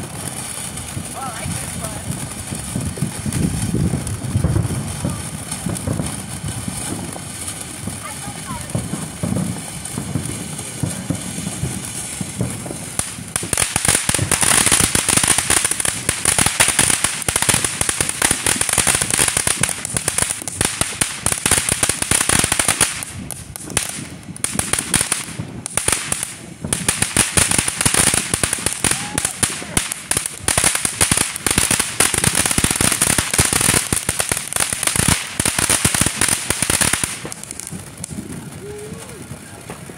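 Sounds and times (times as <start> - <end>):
firework sparks hissing: 0.0 - 39.9
rapid firework crackling: 0.0 - 39.9.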